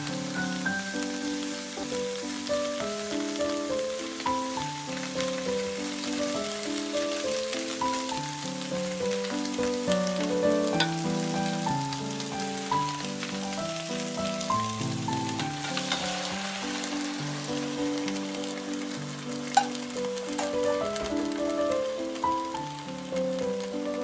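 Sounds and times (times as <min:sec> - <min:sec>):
background music of held notes: 0:00.0 - 0:24.0
food sizzling in a frying pan: 0:00.0 - 0:24.0
sauce pouring: 0:00.1 - 0:23.2.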